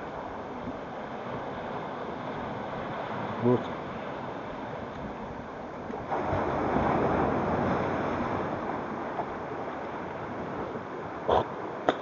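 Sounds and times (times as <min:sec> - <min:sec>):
sea waves on rocky shore: 0:00.0 - 0:12.0
wind on microphone: 0:00.0 - 0:12.0.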